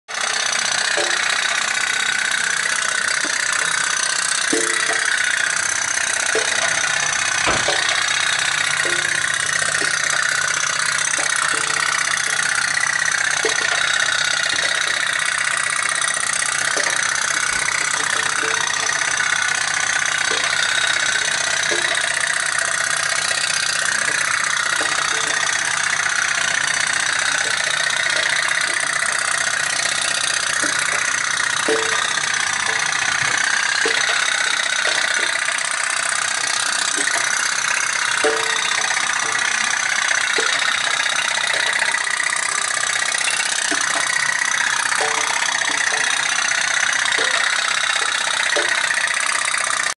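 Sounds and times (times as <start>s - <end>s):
toy steam boat putt-putt: 0.1s - 49.9s.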